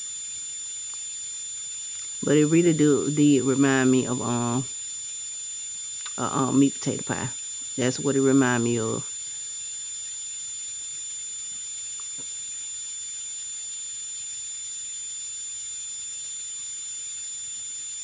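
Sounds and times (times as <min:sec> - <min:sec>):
high-pitched electronic whine: 0:00.0 - 0:18.0.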